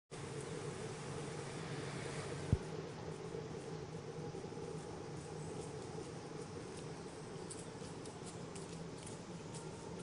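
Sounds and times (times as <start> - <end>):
low hum: 0.1 - 10.0
even hiss: 0.2 - 10.0
faint buzz: 0.2 - 10.0.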